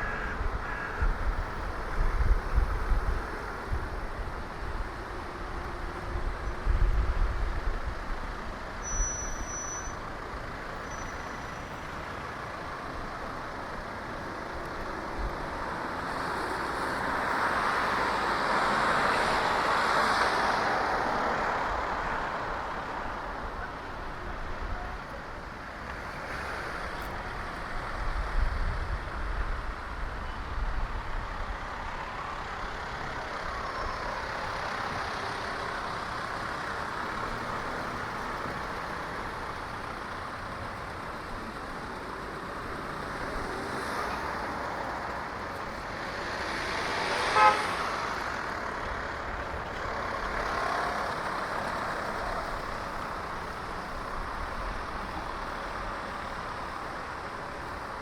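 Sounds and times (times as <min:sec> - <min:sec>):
steady road noise: 0:00.0 - 0:58.0.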